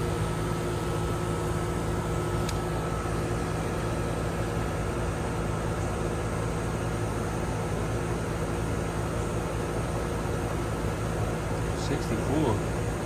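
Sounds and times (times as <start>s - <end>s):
compressor hum: 0.0s - 13.0s
condenser fan blowing: 0.0s - 13.0s.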